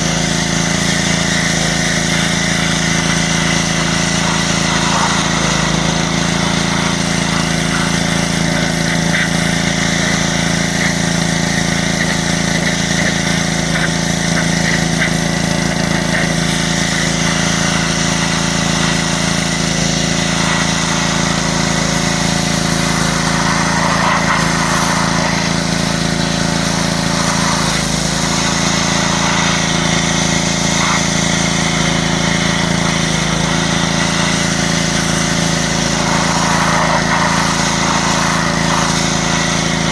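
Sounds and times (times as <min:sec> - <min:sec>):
small engine humming: 0:00.0 - 0:39.9
water spray hissing: 0:00.0 - 0:39.9.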